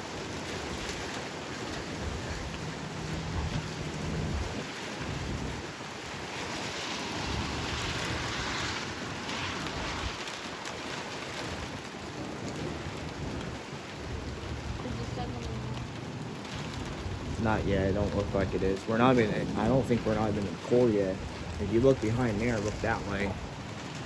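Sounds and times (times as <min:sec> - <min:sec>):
gusting wind: 0:00.0 - 0:24.0
heavy rain: 0:00.0 - 0:24.0
low rumbling thunder: 0:00.0 - 0:24.0.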